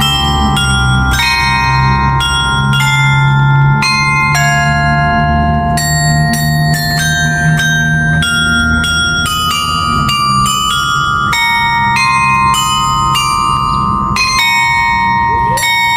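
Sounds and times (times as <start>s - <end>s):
carillon bells playing slow melody: 0.0s - 15.9s.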